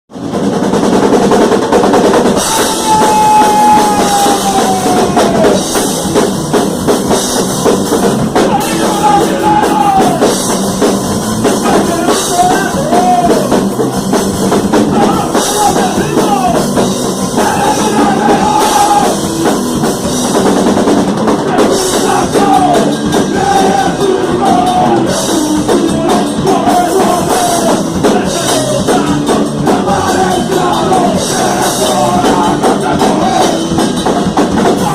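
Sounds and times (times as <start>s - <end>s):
rock band playing loud: 0.1s - 34.9s.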